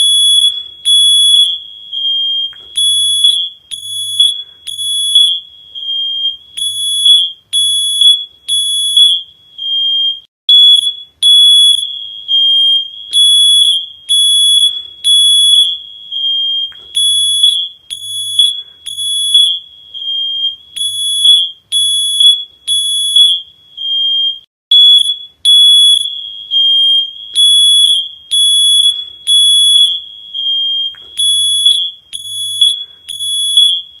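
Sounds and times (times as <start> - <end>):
shrill electronic alarm beeping: 0.0 - 34.0.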